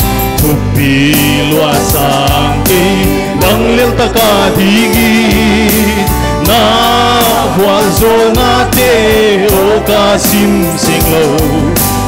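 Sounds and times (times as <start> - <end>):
instrumental accompaniment with beat: 0.0 - 12.0
group singing worship song: 0.4 - 12.0.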